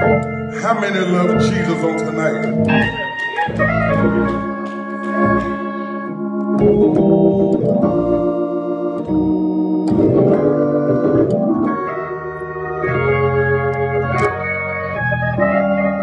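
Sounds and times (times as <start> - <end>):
organ playing hymn chords: 0.0 - 16.0.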